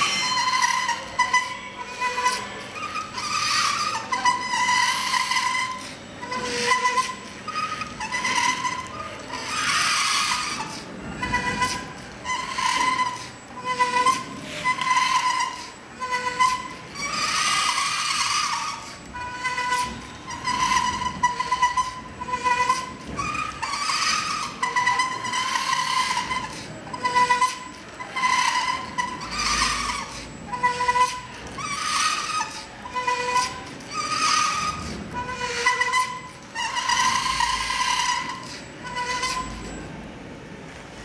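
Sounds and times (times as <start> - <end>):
loud rough grinding: 0.0 - 40.0
robot servo motors whining: 0.0 - 40.0.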